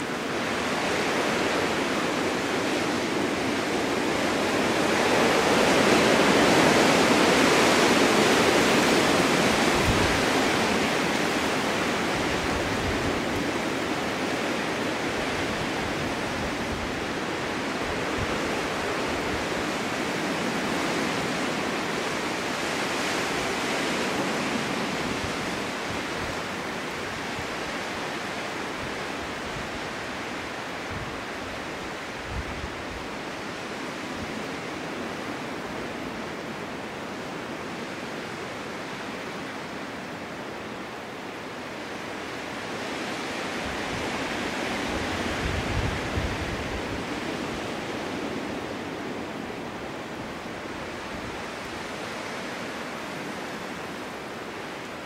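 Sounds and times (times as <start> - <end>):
strong wind blowing: 0.0 - 55.0.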